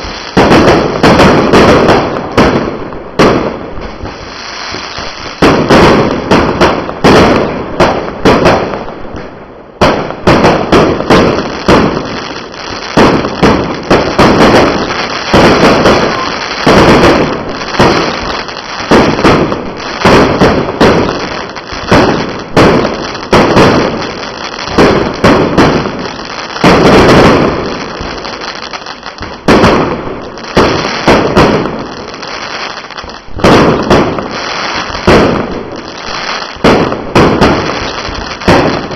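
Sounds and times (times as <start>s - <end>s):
fireworks banging: 0.0s - 38.9s
fireworks crackling: 0.0s - 38.9s.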